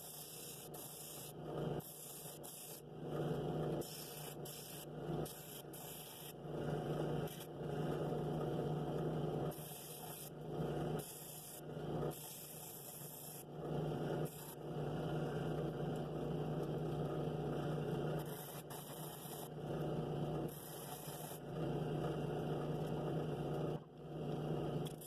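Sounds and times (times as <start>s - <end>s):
drill press motor hum: 0.0s - 25.0s.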